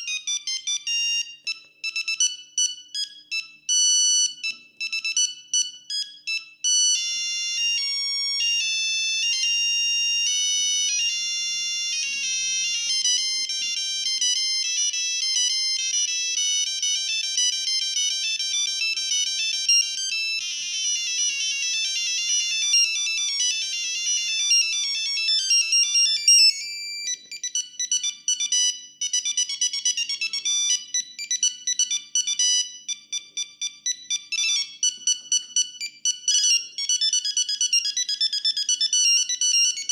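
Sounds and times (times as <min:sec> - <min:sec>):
phone ringtone beeping melodies: 0:00.0 - 0:39.9.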